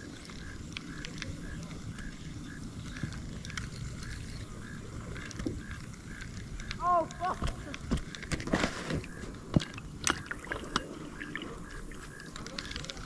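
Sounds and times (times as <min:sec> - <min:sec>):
fishing reel chirping: 0:00.0 - 0:08.3, 0:09.0 - 0:13.0.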